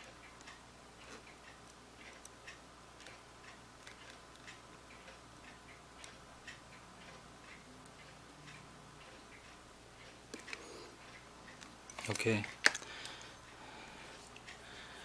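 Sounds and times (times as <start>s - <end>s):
small tools clicking on a watch: 0.0s - 13.6s.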